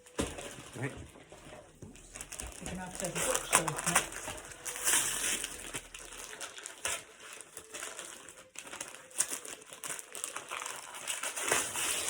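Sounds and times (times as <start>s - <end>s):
wrapping paper tearing and crinkling: 0.0s - 12.0s.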